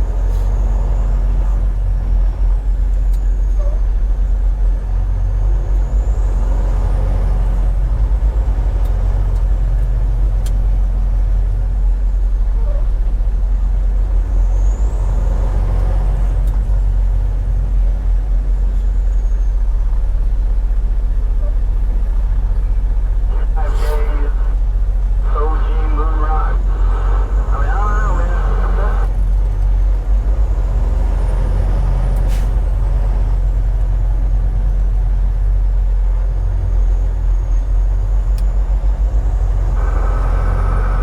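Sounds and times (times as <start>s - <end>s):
truck engine and road rumble: 0.0s - 41.0s.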